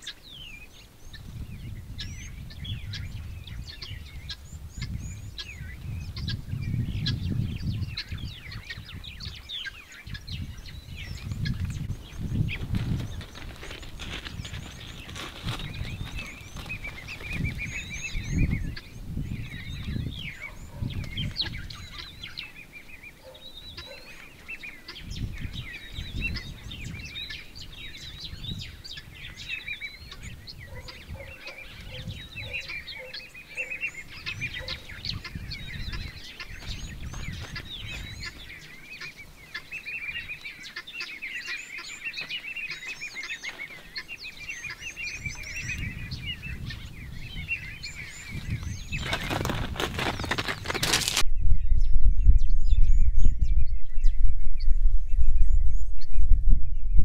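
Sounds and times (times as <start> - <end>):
wind rumble on microphone: 0.0 - 40.5, 43.8 - 57.0
wild birds chirping: 0.0 - 51.2
low repeated bird notes: 0.0 - 57.0.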